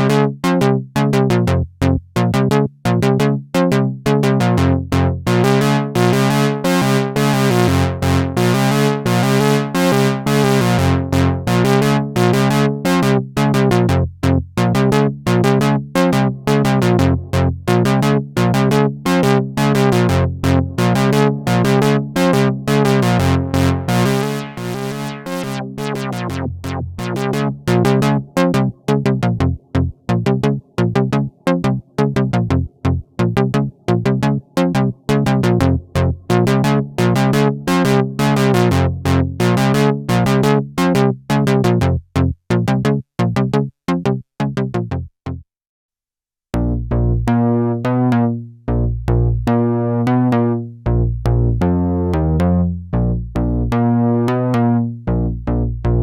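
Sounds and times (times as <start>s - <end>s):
synthesizer sequenced pattern: 0.0s - 45.4s, 46.6s - 56.0s.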